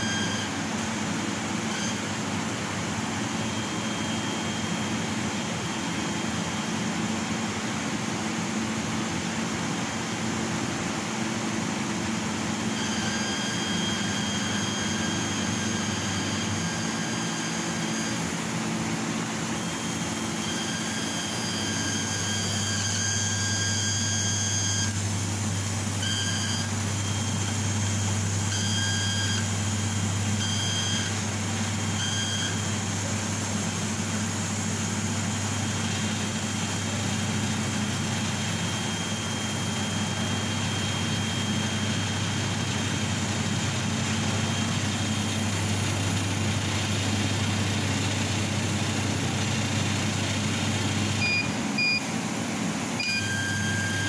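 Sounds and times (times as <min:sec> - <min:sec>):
laser cutter mechanical drone: 0:00.0 - 0:07.7, 0:12.0 - 0:52.2
high whine of drive motors: 0:00.0 - 0:54.0.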